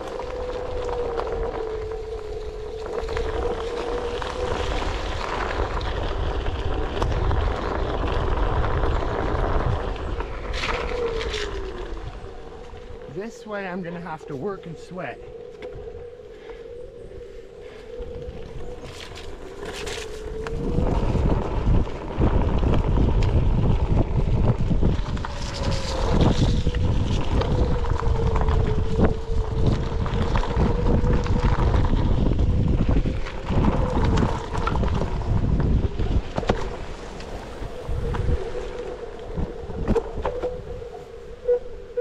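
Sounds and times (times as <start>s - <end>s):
wind noise on microphone: 0.0s - 42.0s.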